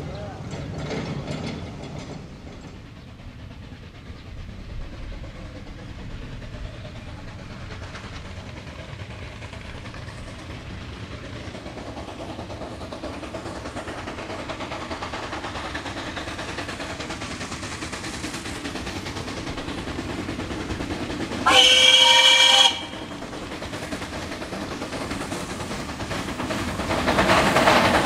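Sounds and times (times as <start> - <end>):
steam locomotive working slowly: 0.0 - 28.0
steam escaping: 3.2 - 28.0.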